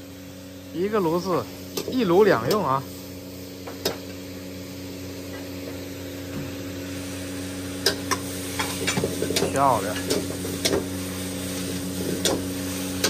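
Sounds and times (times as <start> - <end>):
greens sizzling in a wok: 0.0 - 13.0.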